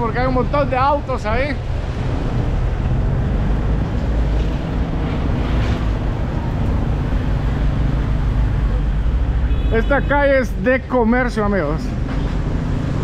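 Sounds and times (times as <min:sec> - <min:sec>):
car traffic passing: 0:00.0 - 0:13.0.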